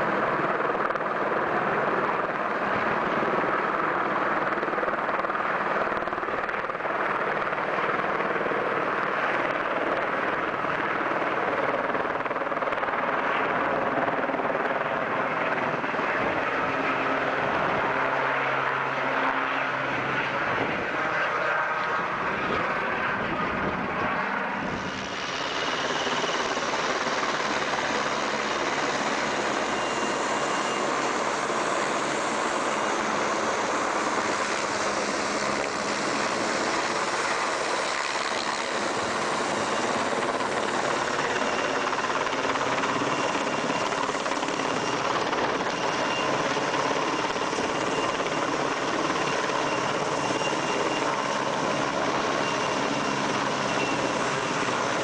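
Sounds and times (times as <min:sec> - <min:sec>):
helicopter rotor and turbine: 0:00.0 - 0:55.0.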